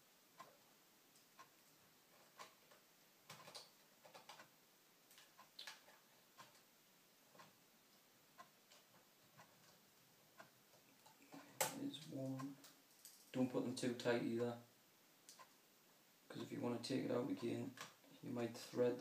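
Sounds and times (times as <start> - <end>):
faint ticking: 0.1 - 19.0.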